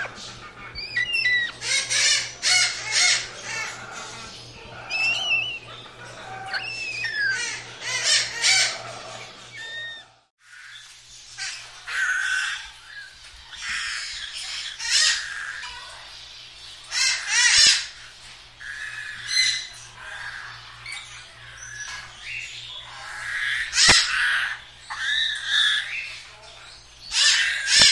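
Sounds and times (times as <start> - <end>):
parrots squawking and screeching: 0.0 - 27.9.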